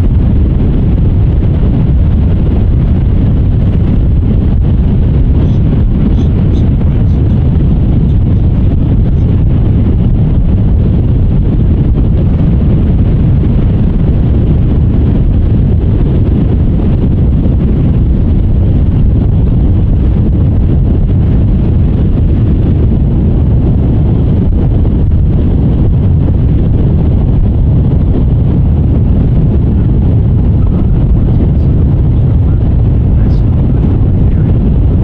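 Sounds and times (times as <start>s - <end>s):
boat engine running: 0.0s - 35.0s
wind buffeting microphone: 0.0s - 35.0s.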